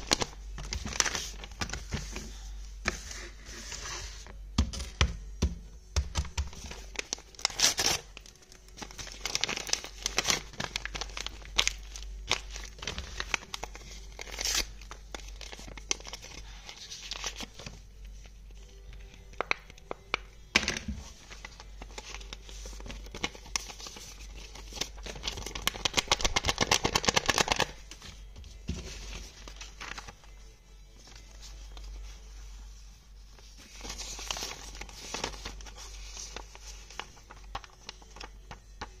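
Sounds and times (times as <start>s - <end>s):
paper rustling and crinkling: 0.0s - 4.9s, 6.2s - 20.1s, 20.8s - 39.0s.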